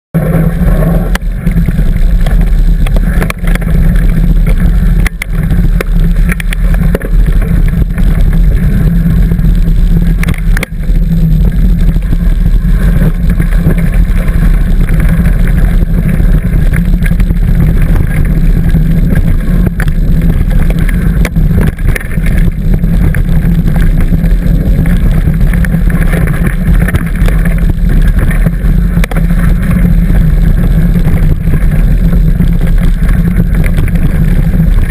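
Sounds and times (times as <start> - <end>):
bicycle knocks and rattles: 0.2 - 34.9
wind rumble on microphone: 0.2 - 34.9.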